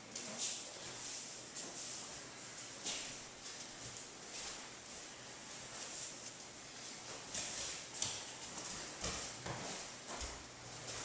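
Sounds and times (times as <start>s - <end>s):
rustling of heavy cotton uniforms: 0.0s - 11.0s.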